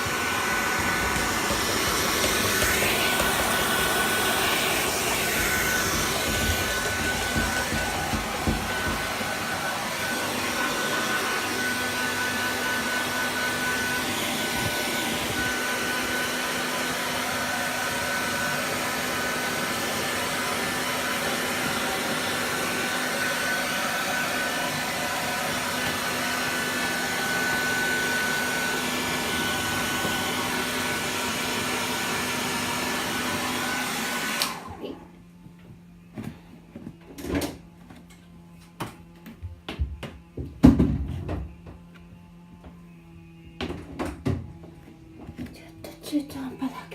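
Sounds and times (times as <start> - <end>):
hair dryer blowing with high whine: 0.0 - 46.9.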